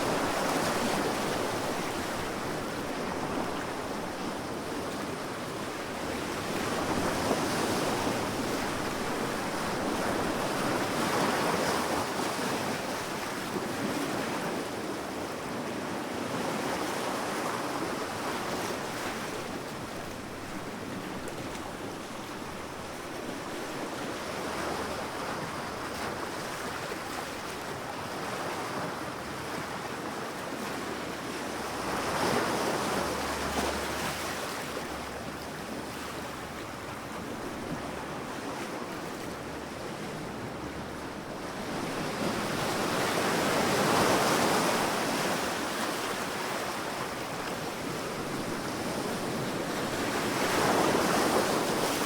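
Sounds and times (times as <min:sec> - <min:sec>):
sea waves breaking on beach: 0:00.0 - 0:52.0.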